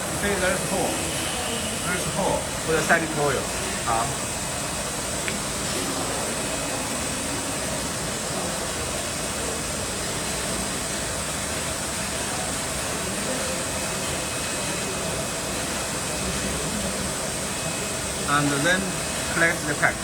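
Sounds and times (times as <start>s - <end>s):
workshop machinery hiss and hum: 0.0s - 20.0s.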